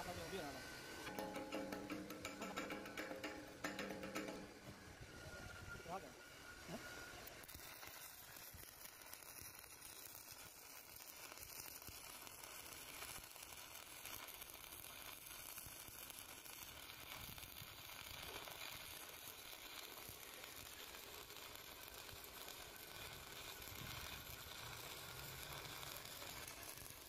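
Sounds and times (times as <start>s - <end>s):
welding arc sizzling crackle: 0.0s - 4.7s, 6.6s - 27.0s.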